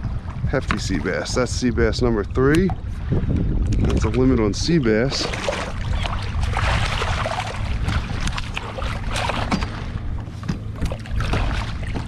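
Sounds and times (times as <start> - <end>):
water splashing against kayak: 0.0 - 12.0
wind rumbling on microphone: 0.0 - 12.0.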